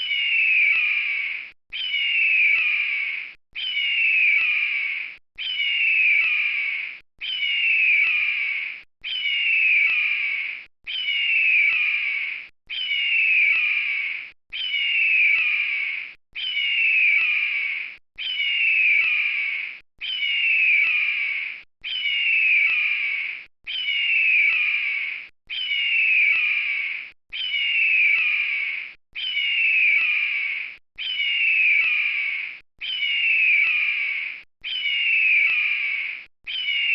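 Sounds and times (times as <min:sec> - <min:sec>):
bird of prey screaming: 0:00.0 - 0:36.9.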